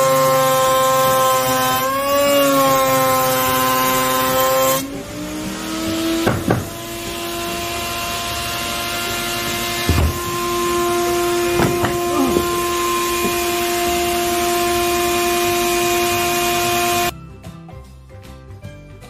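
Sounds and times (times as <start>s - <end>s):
router bit cutting wood: 0.0s - 17.1s
router motor whine: 0.0s - 17.1s.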